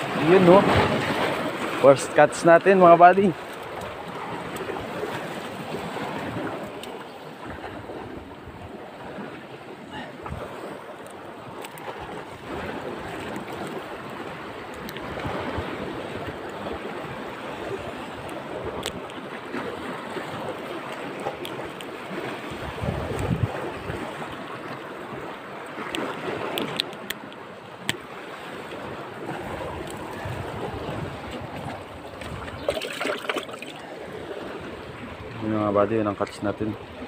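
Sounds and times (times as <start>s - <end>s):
waves washing against rocks: 0.0s - 37.0s
wind rumbling on microphone: 3.7s - 25.3s, 26.0s - 35.5s.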